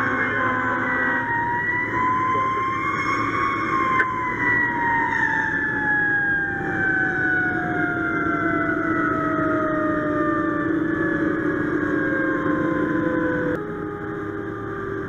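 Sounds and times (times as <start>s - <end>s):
fire truck siren: 0.0s - 15.0s
truck engine rumble: 0.0s - 15.0s.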